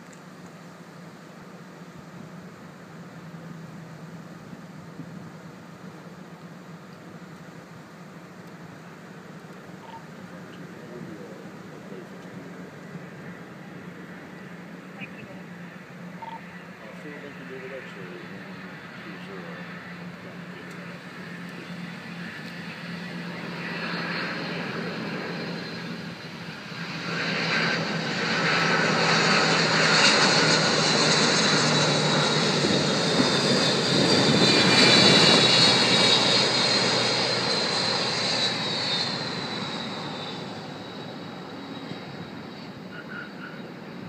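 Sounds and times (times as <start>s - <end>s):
jet airliner passing low: 0.2s - 44.0s.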